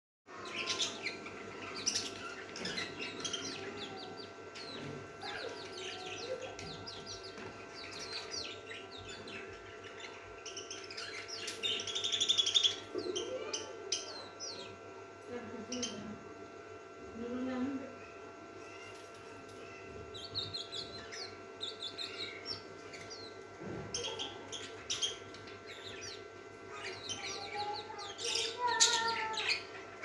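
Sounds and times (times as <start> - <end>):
buzzy parrot chatter: 0.3 - 14.8, 18.0 - 30.0
parrots chirping: 0.3 - 16.5, 18.0 - 30.0.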